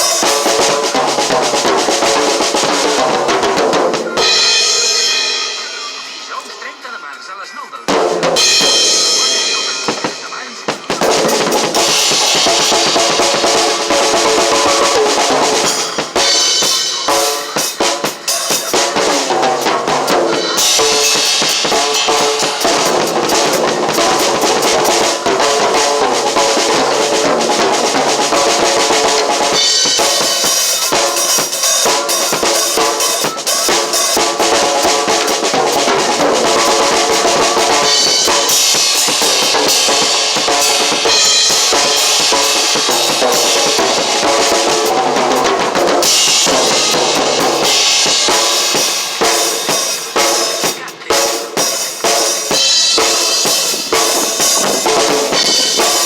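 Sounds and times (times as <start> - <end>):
music with pitched instruments: 0.0 - 7.2, 7.9 - 56.0
drum kit groove: 0.0 - 56.0.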